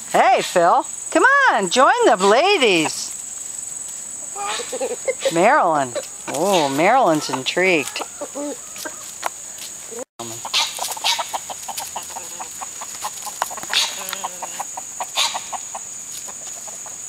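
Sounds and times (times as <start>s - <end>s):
high-pitched insect drone: 0.0s - 17.0s
hens clucking: 2.1s - 3.1s, 4.2s - 17.0s.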